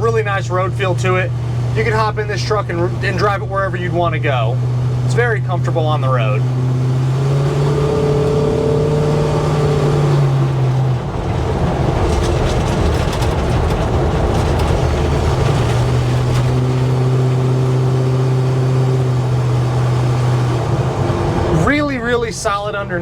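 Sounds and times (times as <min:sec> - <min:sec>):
pickup engine and road hum: 0:00.0 - 0:23.0.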